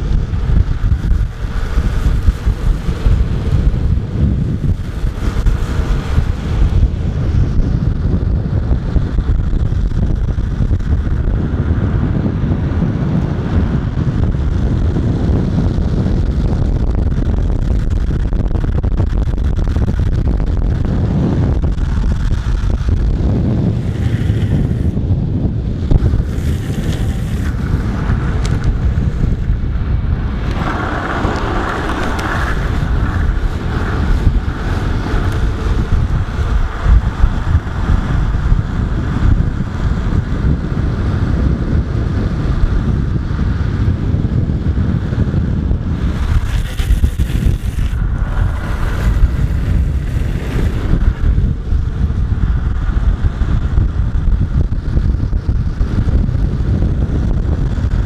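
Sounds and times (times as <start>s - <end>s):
skateboard wheels rolling on asphalt: 0.0s - 58.0s
wind buffeting microphone: 0.0s - 58.0s.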